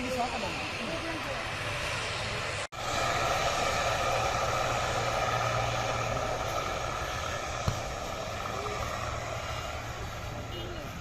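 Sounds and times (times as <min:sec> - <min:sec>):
jet airliner engine noise: 0:00.0 - 0:11.0.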